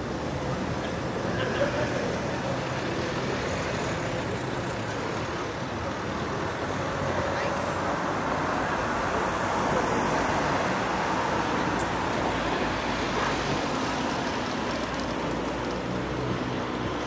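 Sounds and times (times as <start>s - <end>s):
passing cars: 0.0s - 17.0s.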